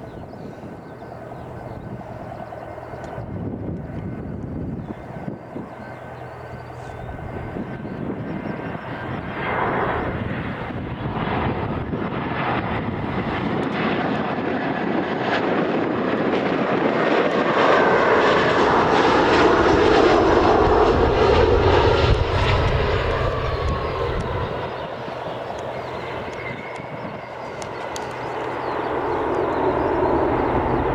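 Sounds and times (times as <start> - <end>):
aircraft engines passing: 0.0 - 30.9.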